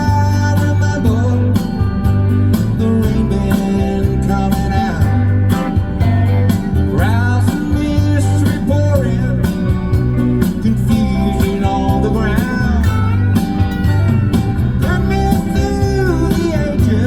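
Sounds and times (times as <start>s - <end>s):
country-rock band music: 0.0s - 17.0s.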